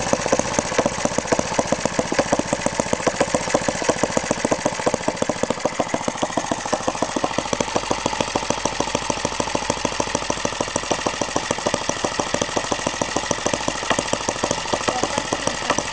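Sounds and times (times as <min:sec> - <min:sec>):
model diesel engine running: 0:00.0 - 0:15.9.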